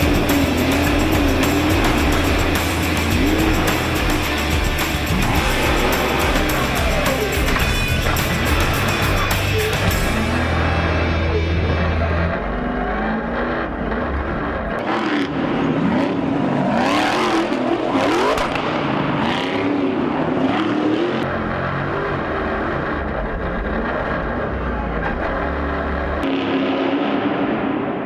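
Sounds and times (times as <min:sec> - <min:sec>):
racing truck engines revving: 0:00.0 - 0:28.0.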